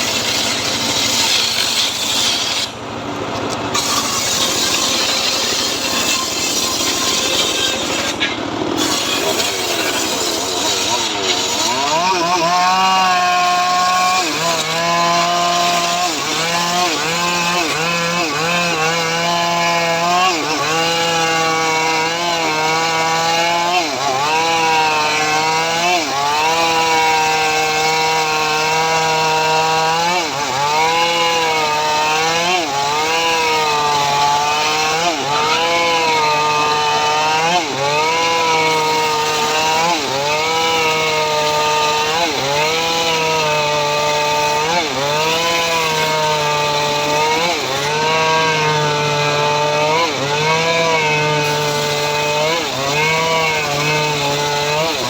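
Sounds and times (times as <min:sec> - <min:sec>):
saw engine cutting wood: 0:00.0 - 0:55.0.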